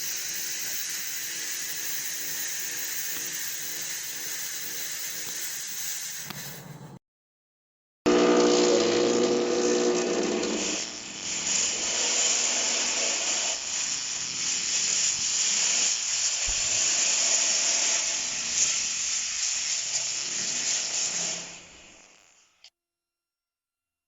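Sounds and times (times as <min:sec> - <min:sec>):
gas hissing under pressure: 0:00.0 - 0:07.0, 0:08.1 - 0:22.2.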